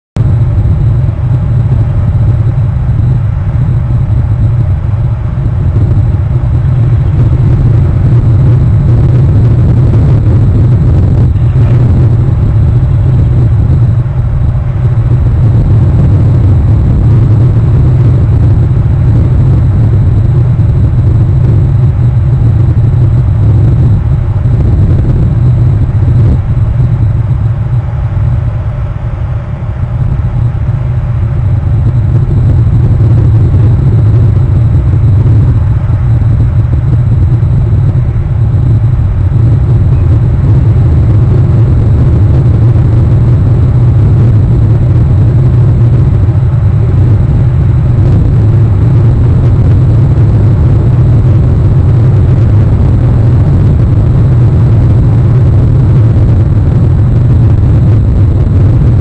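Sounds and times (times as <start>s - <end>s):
loud steady low rumble: 0.0s - 59.0s.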